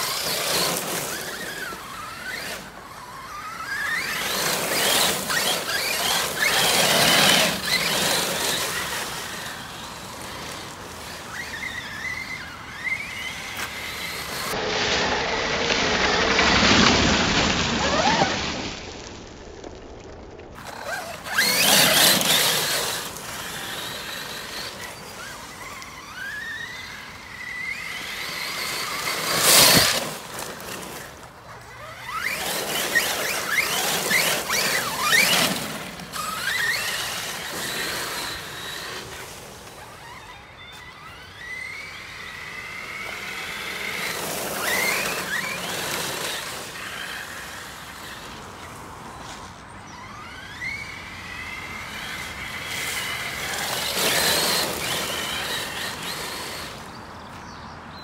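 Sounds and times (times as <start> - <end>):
electric motor whining: 0.0 - 16.8, 20.6 - 48.2, 49.9 - 57.5
loud rushes of noise: 0.0 - 19.2, 20.5 - 57.1
tyres on wet gravel: 0.0 - 58.0.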